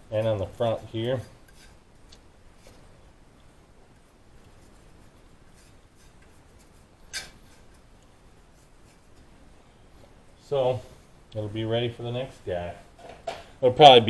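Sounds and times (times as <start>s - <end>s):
faint rubbing: 0.0s - 13.0s.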